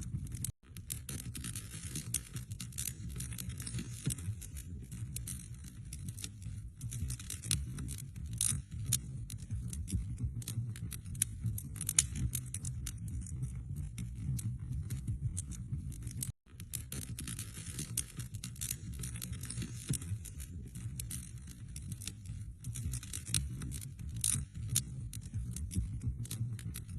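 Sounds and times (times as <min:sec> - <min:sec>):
low rumble of flames: 0:00.0 - 0:26.9
burning wood crackling and popping: 0:00.2 - 0:26.9.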